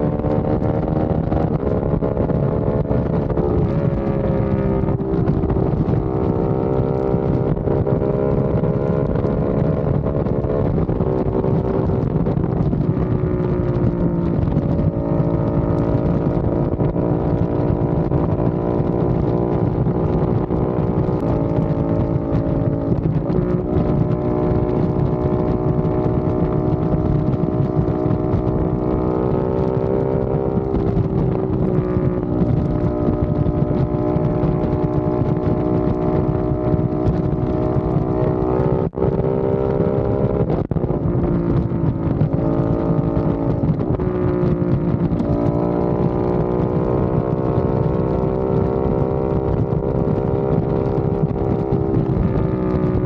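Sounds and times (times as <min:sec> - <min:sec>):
motorcycle engine deep exhaust: 0:00.0 - 0:53.0.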